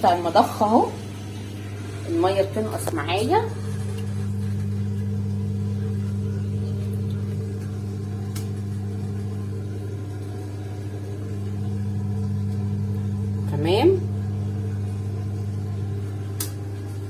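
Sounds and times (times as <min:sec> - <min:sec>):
washing machine drain pump humming: 0:00.0 - 0:17.0.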